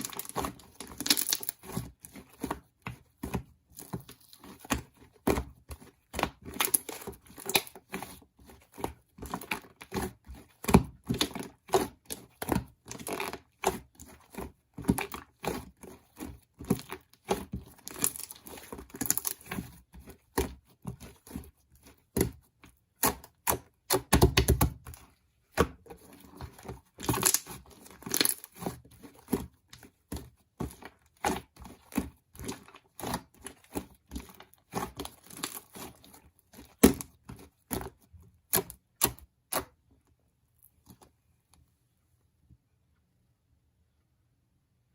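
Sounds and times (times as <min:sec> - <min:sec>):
crinkling and rustling: 0:00.0 - 0:22.8, 0:24.0 - 0:41.8.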